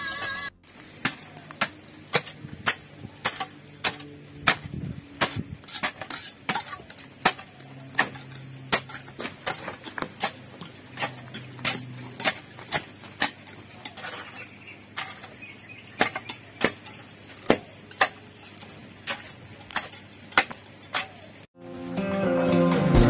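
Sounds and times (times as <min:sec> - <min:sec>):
hoe chopping into soil: 0:01.0 - 0:21.3.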